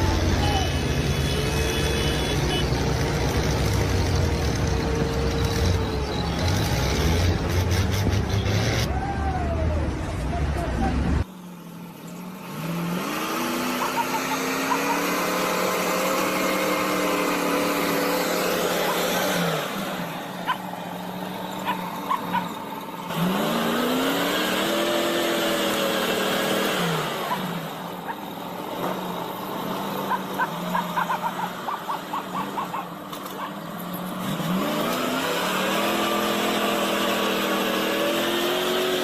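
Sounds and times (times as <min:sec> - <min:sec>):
truck engine revving and idling: 0:00.0 - 0:39.0.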